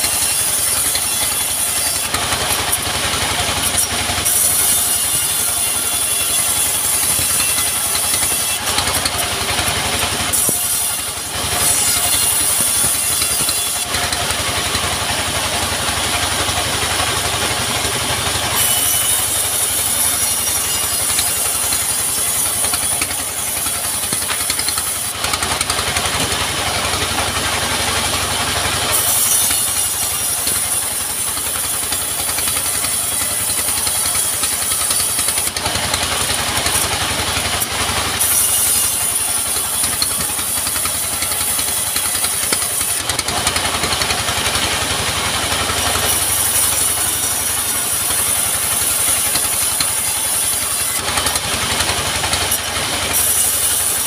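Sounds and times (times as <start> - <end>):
saw blade hissing through log: 0.0 - 54.0
sawmill engine drone: 0.0 - 54.0.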